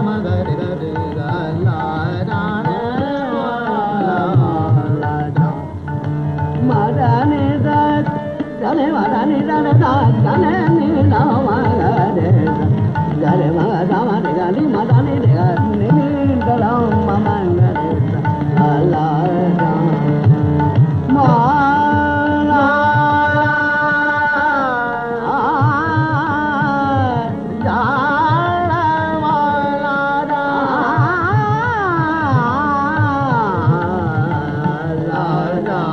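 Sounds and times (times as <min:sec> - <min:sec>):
man singing classical vocals: 0:00.0 - 0:35.9
tabla: 0:00.0 - 0:35.9.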